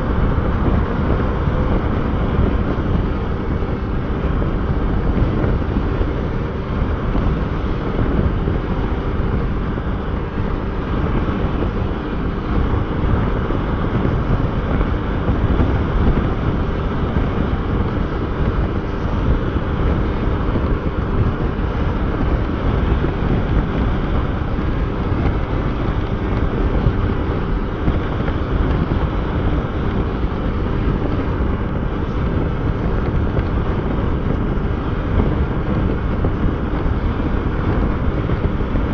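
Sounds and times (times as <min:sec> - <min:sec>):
motorcycle riding: 0:00.0 - 0:38.9
wind buffeting microphone: 0:00.0 - 0:38.9.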